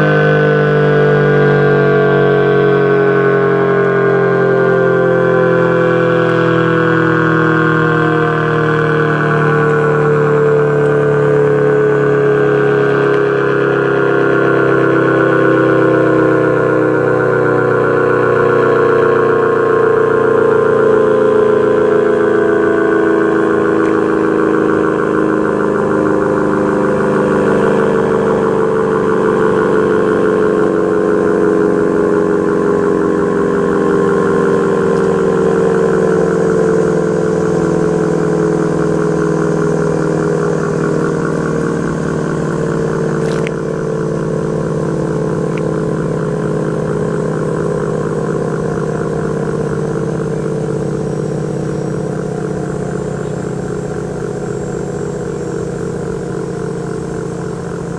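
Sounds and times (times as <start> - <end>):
siren winding down: 0.0 - 57.9.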